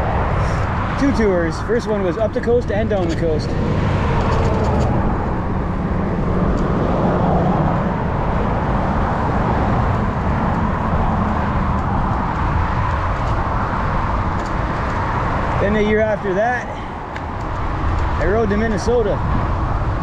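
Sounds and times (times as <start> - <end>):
road traffic rushing: 0.0 - 20.0
wind on microphone: 0.0 - 20.0.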